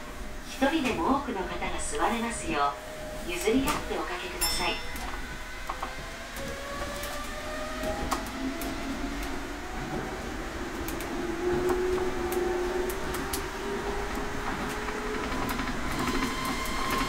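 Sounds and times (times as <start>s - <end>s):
monorail running noise: 0.0s - 17.0s.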